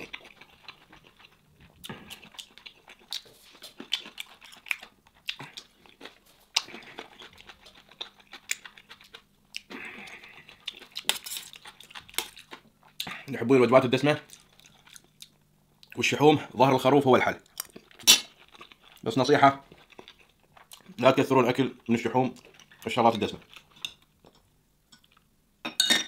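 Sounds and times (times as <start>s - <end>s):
chewing food: 0.0s - 13.3s, 14.0s - 16.0s, 17.4s - 25.3s.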